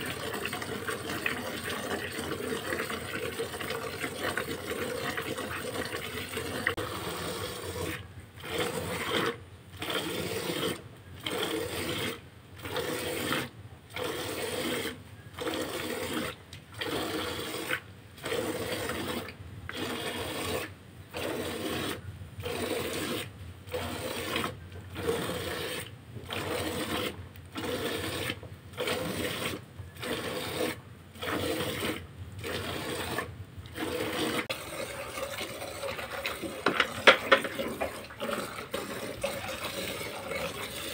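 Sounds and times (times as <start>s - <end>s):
milk squirting into a bucket: 0.0s - 40.9s.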